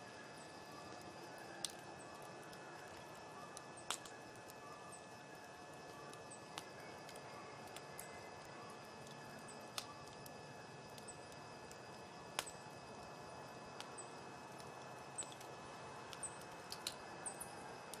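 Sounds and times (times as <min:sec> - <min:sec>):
faint steady fire hiss: 0:00.0 - 0:18.0
campfire pops and snaps: 0:01.0 - 0:04.6, 0:05.4 - 0:18.0.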